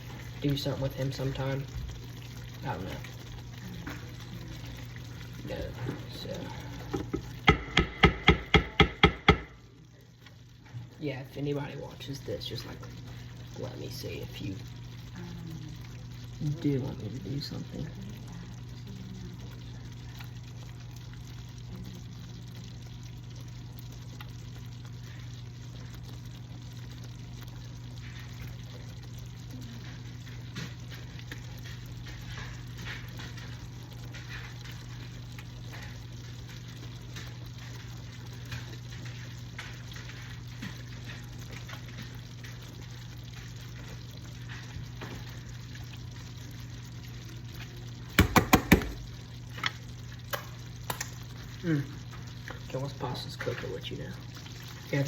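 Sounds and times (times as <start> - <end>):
crackles: 0.0 - 7.5, 12.0 - 55.0
low steady hum: 0.0 - 55.0
water boiling and bubbling: 0.0 - 55.0.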